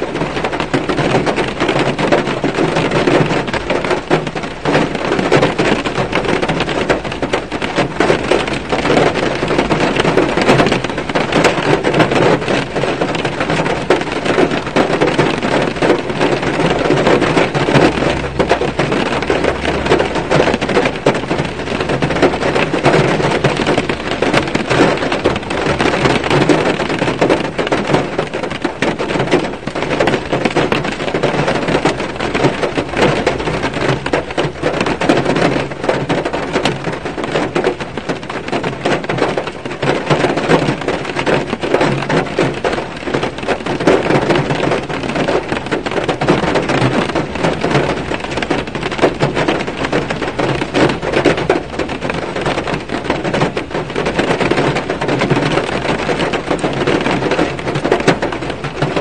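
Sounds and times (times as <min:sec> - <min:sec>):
rain pattering on car roof: 0:00.0 - 0:59.0.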